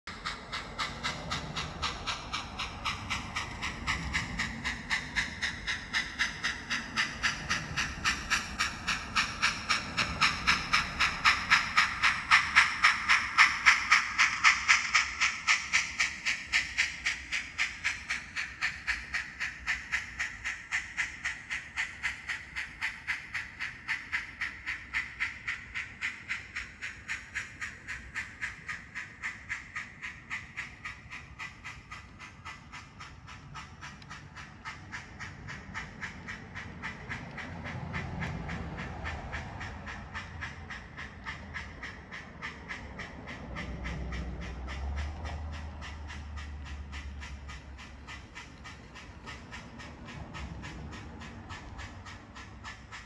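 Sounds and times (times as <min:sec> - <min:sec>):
model steam locomotive chuffing: 0:00.0 - 0:53.0.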